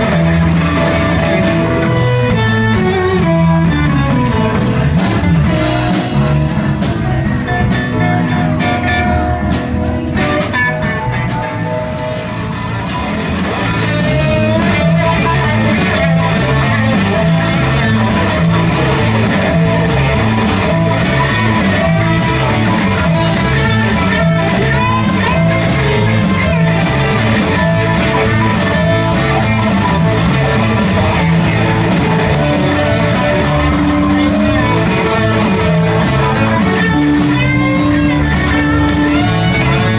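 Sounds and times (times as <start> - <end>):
blues-rock band playing: 0.0 - 39.9
walking bass line: 0.0 - 39.9.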